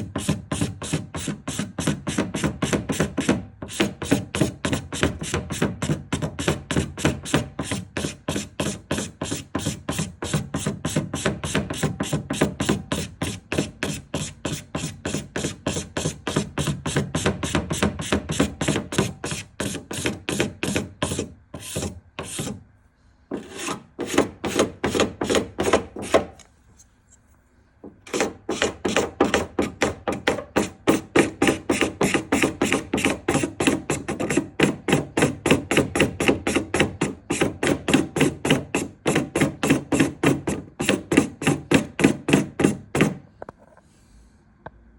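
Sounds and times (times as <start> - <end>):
hand sanding rasping strokes: 0.0 - 22.6, 23.3 - 26.4, 28.1 - 43.2.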